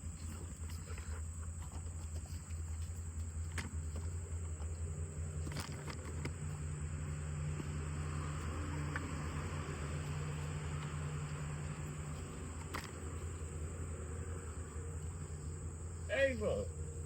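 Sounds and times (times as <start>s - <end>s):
high insect drone: 0.0s - 17.0s
low steady hum: 0.0s - 17.0s.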